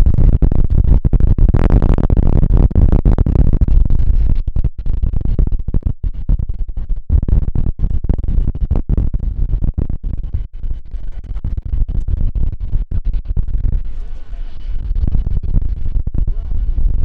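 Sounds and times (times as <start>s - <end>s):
wind buffeting microphone: 0.0s - 14.2s.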